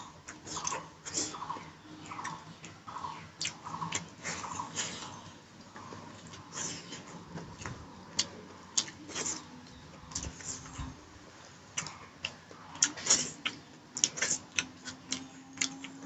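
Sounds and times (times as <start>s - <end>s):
close-up chewing: 0.0s - 16.0s.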